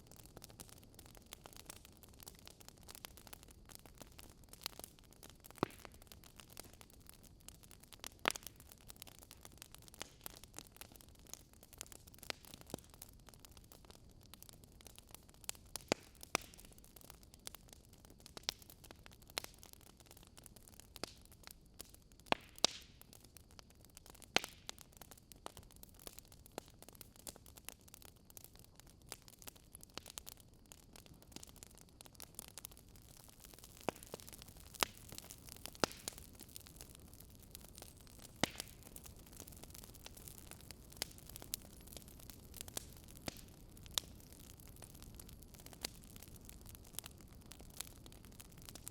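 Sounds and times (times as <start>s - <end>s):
faint steady hiss: 0.0s - 48.9s
wood fire crackling: 0.0s - 48.9s.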